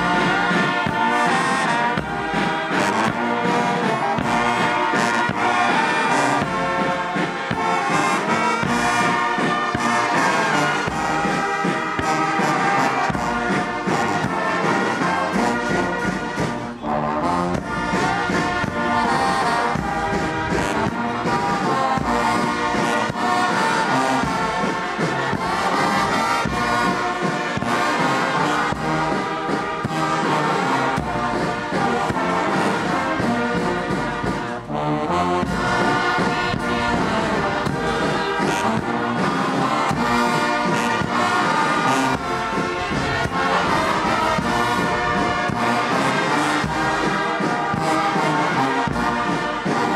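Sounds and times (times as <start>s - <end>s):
brass band playing a march: 0.0s - 49.9s.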